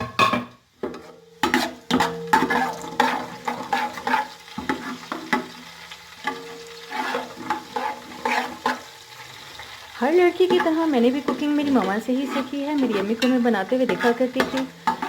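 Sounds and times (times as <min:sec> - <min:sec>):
spoon scraping and knocking pot: 0:00.0 - 0:05.6, 0:06.2 - 0:08.9, 0:10.4 - 0:15.0
spices frying in hot ghee: 0:00.6 - 0:15.0.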